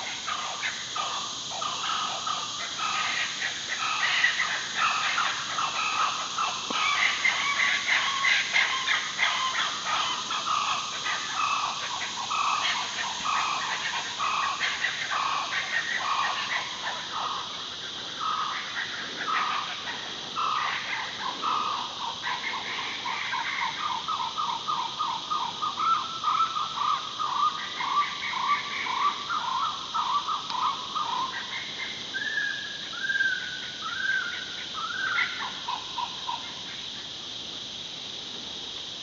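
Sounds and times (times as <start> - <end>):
rapid repeated animal calls: 0.0 - 37.2
high-pitched insect drone: 0.0 - 39.0.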